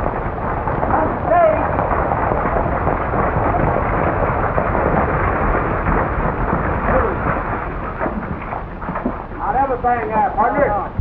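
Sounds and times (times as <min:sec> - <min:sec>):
galloping hooves: 0:00.0 - 0:10.9
wheels rolling: 0:00.0 - 0:10.9.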